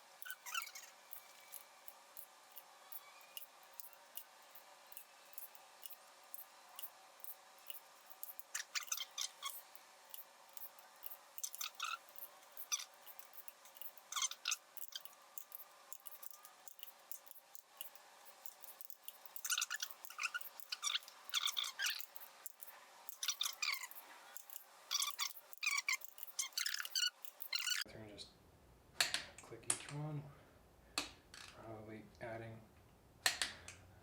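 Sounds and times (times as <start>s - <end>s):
ratchet and torque wrench clicking: 0.2s - 27.8s.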